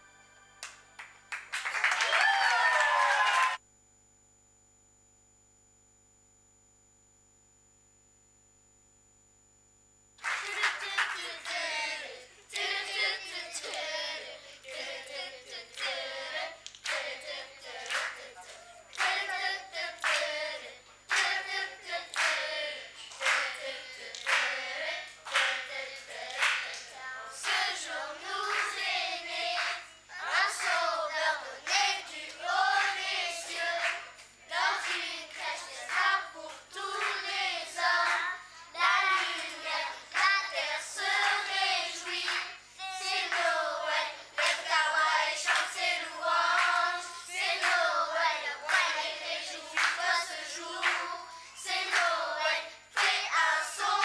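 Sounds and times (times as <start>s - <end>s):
children's choir singing: 10.2s - 54.0s.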